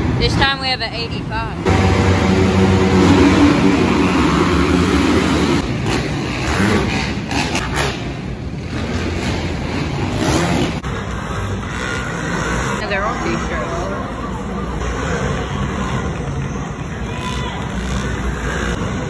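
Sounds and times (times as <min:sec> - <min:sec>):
motocross bikes revving and racing: 0:00.0 - 0:19.0.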